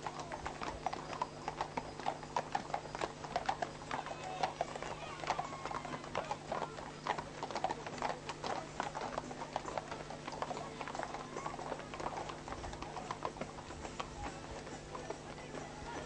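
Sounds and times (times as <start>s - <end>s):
hooves clip-clopping on pavement: 0.0s - 16.0s.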